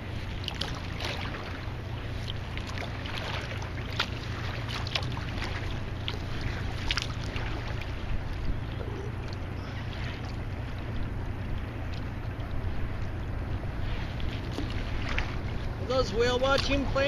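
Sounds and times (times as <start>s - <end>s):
steady low rumble: 0.0s - 17.0s
water slapping against kayak: 0.0s - 17.0s.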